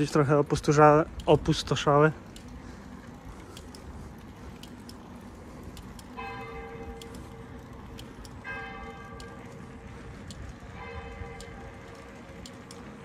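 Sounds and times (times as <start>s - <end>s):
bicycle rolling over cobbles: 0.0s - 13.0s.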